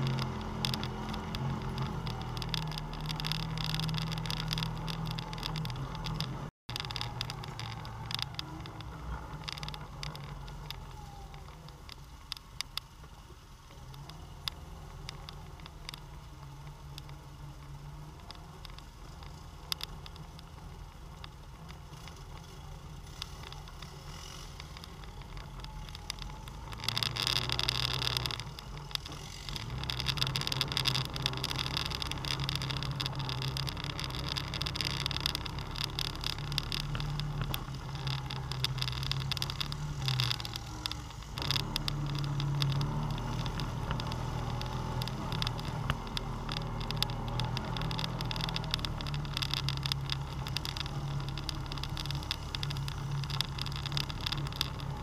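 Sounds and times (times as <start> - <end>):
atv engine running: 0.0 - 12.1, 12.7 - 55.0
knocks and rattles over bumps: 0.0 - 13.2, 23.1 - 55.0.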